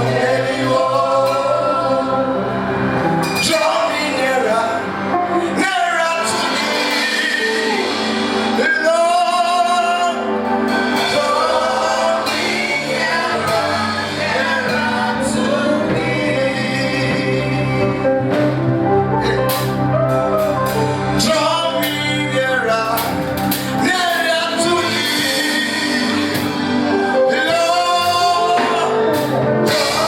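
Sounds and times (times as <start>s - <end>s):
instrumental backing: 0.0s - 30.0s
voices singing gospel: 0.0s - 30.0s.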